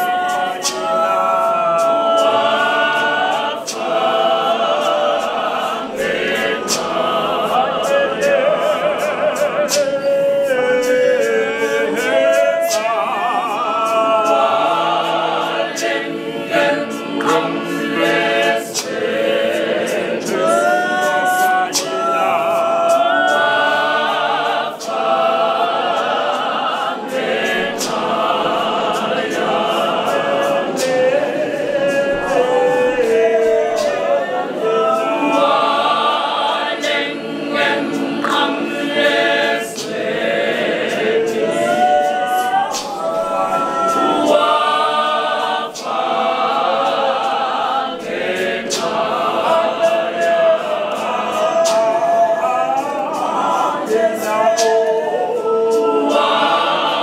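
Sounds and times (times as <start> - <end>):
women singing a hymn a cappella: 0.0 - 57.0.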